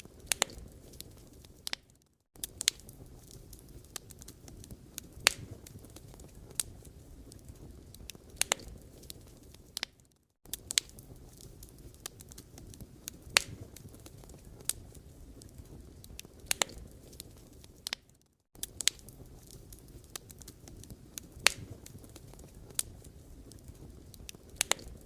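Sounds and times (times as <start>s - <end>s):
firewood burning: 0.0s - 25.0s
wood crackling and popping: 0.0s - 25.0s.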